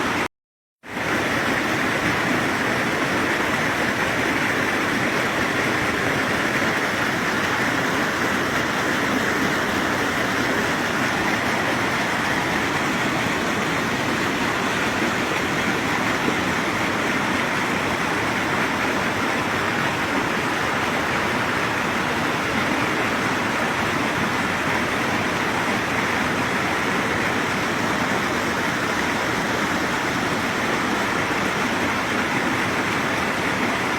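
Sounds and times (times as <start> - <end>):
spring water rushing: 0.0 - 0.3, 0.9 - 33.9.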